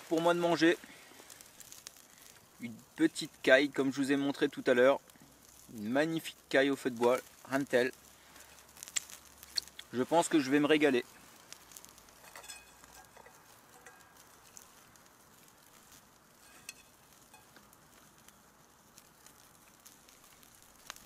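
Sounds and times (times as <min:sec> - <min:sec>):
faint clicks and crackles: 0:00.0 - 0:21.0
quiet hiss: 0:00.0 - 0:21.0.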